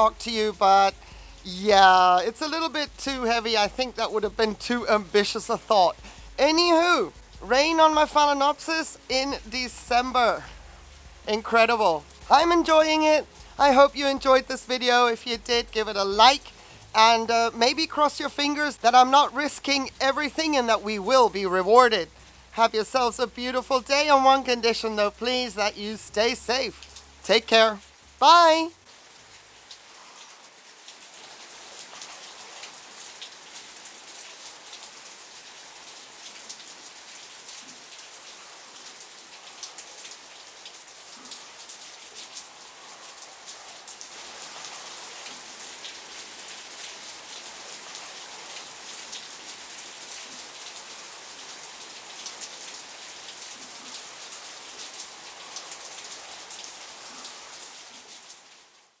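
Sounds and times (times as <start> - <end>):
heavy rain hissing: 0.0 - 59.0
raindrops ticking close by: 0.0 - 59.0.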